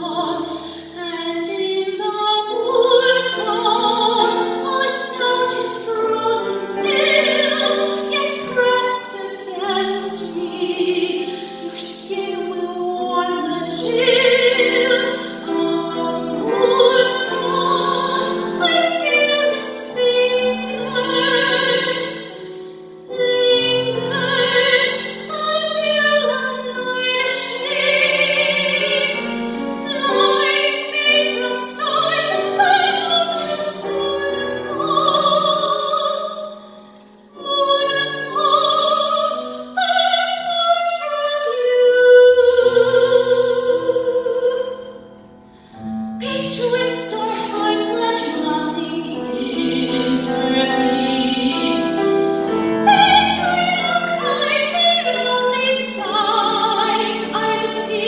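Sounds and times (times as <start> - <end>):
woman singing operatic soprano: 0.0 - 36.6, 37.3 - 45.0, 46.2 - 58.0
grand piano: 0.0 - 58.0.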